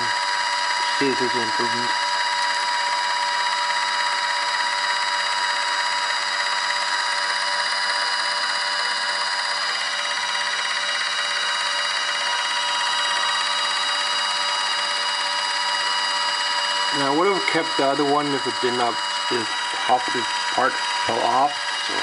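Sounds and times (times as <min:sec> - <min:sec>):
disc repair machine whining: 0:00.0 - 0:22.0.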